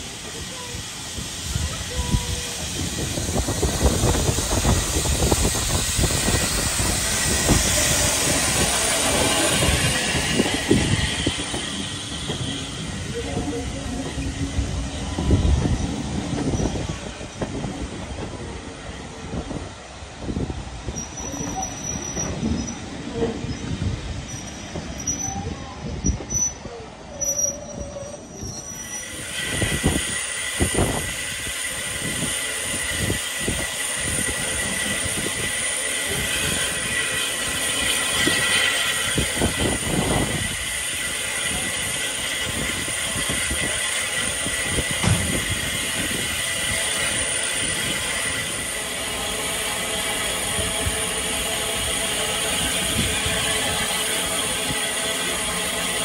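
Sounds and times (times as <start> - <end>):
loud hiss: 0.0 - 18.1, 28.6 - 56.0
steam train running: 0.0 - 56.0
high squeal: 1.6 - 17.0, 20.9 - 56.0.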